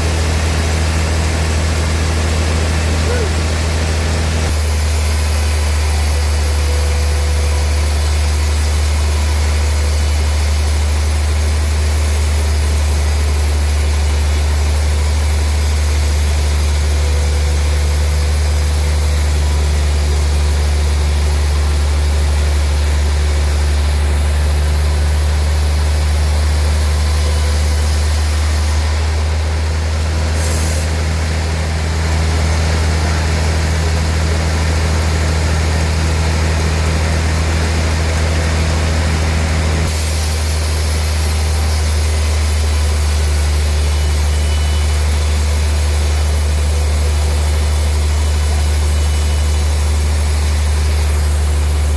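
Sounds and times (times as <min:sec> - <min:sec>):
sawmill machinery droning: 0:00.0 - 0:51.9.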